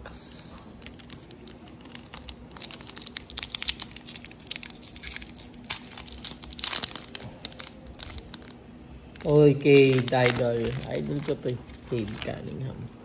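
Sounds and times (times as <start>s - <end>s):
foil pack crinkling: 0.7s - 8.6s, 9.2s - 13.0s
foil pack tearing: 0.8s - 8.5s, 9.2s - 12.8s.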